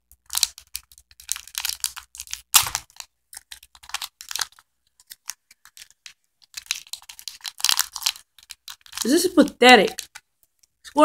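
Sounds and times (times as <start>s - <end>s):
earphone cable crinkling and rustling: 0.1s - 11.0s.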